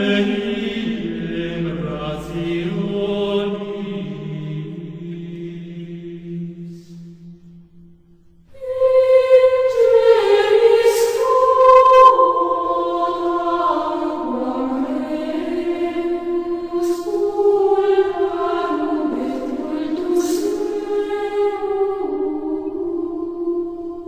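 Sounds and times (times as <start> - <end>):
slow vocal chant: 0.0 - 24.0.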